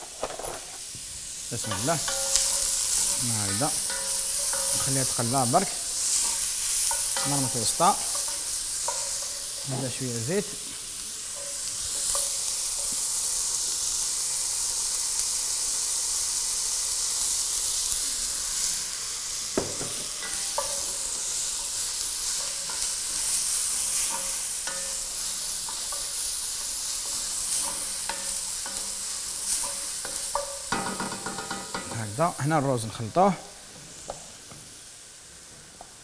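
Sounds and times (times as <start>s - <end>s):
onion sizzling in oil: 0.0s - 36.0s.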